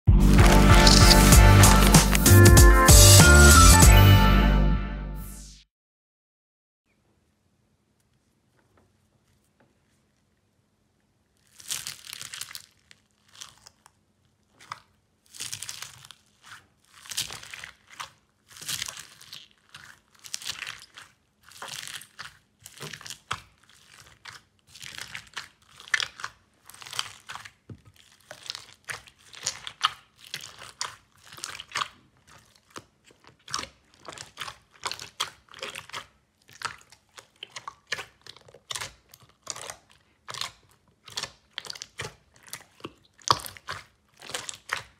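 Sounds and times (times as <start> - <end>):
crunchy slime squishing: 0.1 - 2.7, 8.4 - 44.9.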